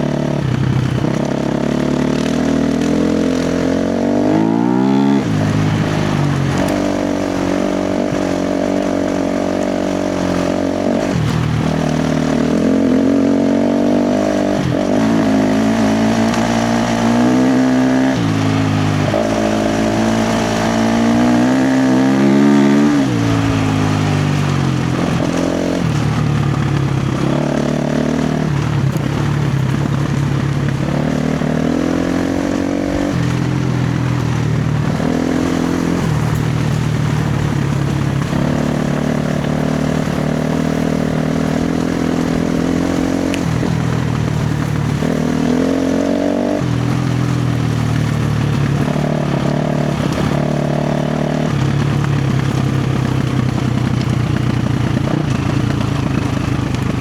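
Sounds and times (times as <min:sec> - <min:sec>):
constant rushing noise: 0:00.0 - 0:57.0
dirt bike engine revving: 0:00.0 - 0:57.0.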